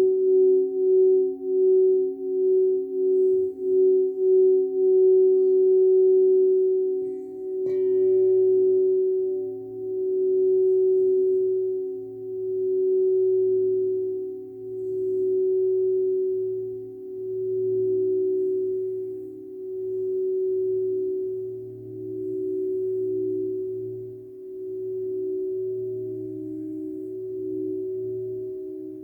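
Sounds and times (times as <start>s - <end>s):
singing bowl ringing: 0.0s - 29.0s.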